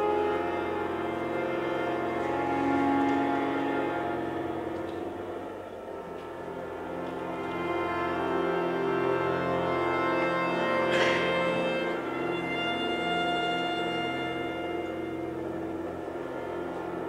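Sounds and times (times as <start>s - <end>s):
cello accordion and strings chords: 0.0s - 17.0s.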